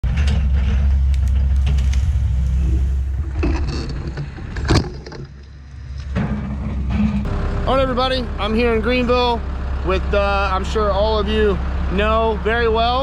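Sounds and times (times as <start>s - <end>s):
diesel machinery rumbling: 0.0s - 13.0s.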